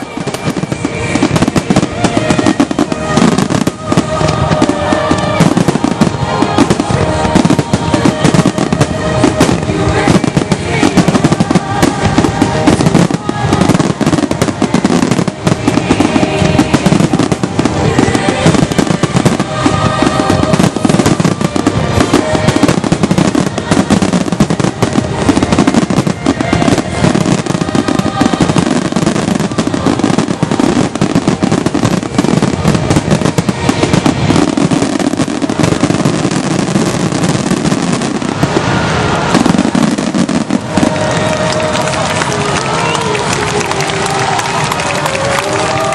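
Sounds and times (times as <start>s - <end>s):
fireworks bangs and crackling: 0.0s - 45.9s
music playing: 0.0s - 45.9s.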